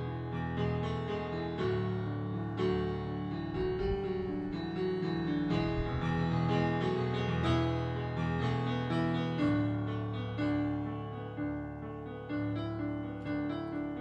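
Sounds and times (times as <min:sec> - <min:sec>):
keyboard piano rock passage: 0:00.0 - 0:14.0.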